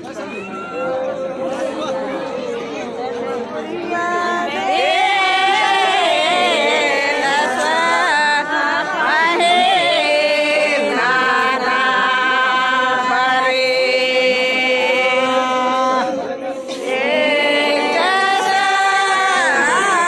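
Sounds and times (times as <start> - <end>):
voices singing chant-like song: 3.5 - 20.0.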